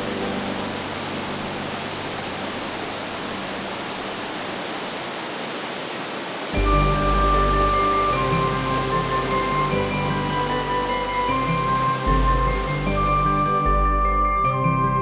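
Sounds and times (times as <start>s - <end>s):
background music sustained tones: 0.0s - 4.2s, 6.6s - 15.0s
flowing water rushing: 0.0s - 15.0s.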